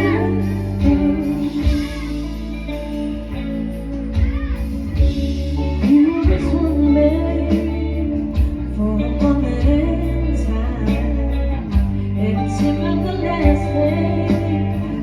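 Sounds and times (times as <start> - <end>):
woman singing: 0.0 - 3.3, 4.1 - 15.0
live band playing: 0.0 - 15.0.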